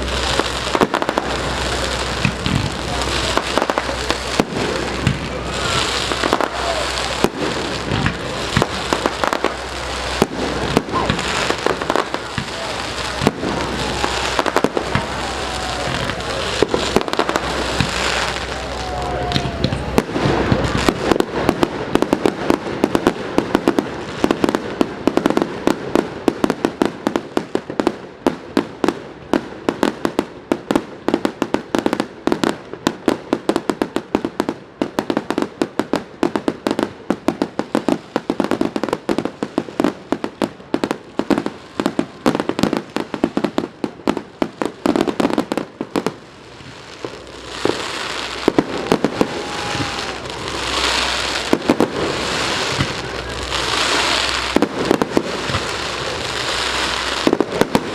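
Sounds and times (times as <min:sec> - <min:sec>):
fireworks cracking and popping: 0:00.0 - 0:57.9.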